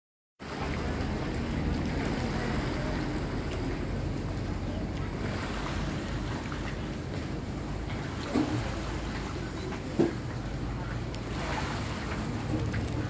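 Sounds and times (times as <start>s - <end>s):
flowing river water: 0.4s - 13.0s
wind: 0.4s - 13.0s.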